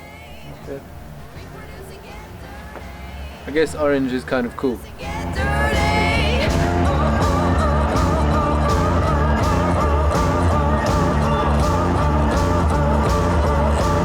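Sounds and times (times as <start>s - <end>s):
rock song with vocals: 0.0s - 14.0s.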